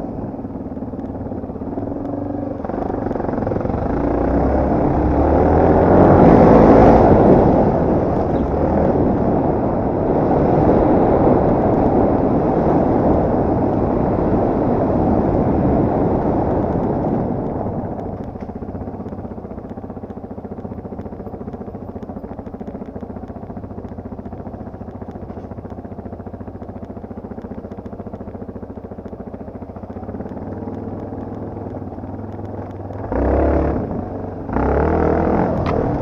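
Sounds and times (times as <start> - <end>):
motorcycle engine running under load: 0.0 - 36.0.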